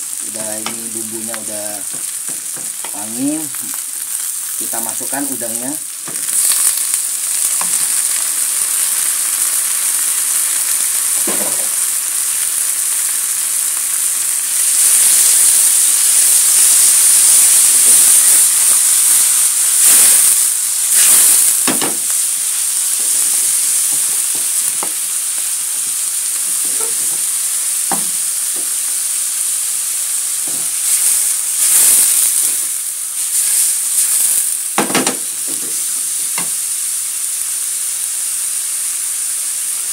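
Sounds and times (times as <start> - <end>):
shrimp sizzling in oil: 0.0 - 39.9.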